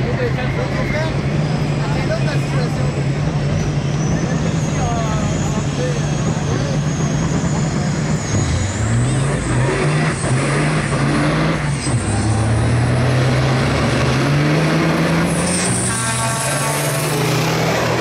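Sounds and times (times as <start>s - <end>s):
diesel truck engines at full throttle: 0.0s - 18.0s.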